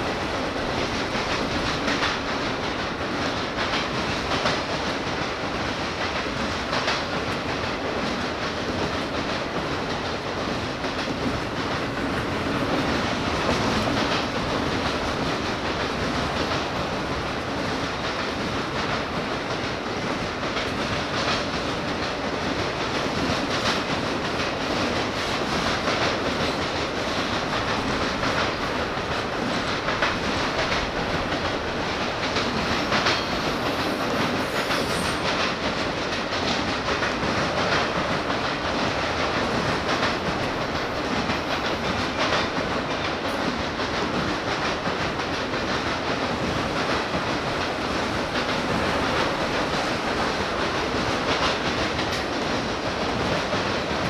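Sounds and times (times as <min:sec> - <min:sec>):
train wheels rumbling on rails: 0:00.0 - 0:54.0
wheels clacking on track: 0:00.0 - 0:54.0.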